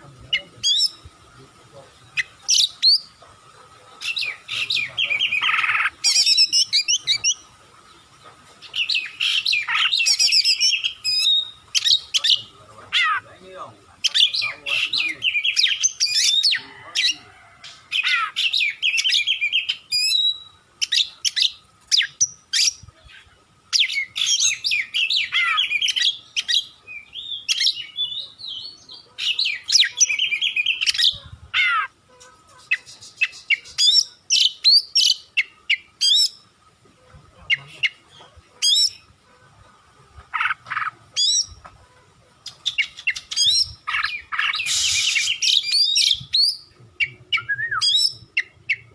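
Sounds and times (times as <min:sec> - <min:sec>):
bird singing varied song: 0:00.0 - 0:48.9.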